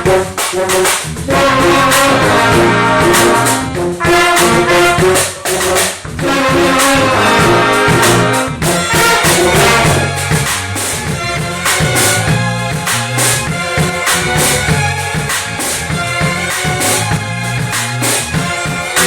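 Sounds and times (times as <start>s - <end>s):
bass line: 0.0s - 19.0s
horns playing melody: 0.0s - 19.0s
steady drum beat: 0.0s - 19.0s.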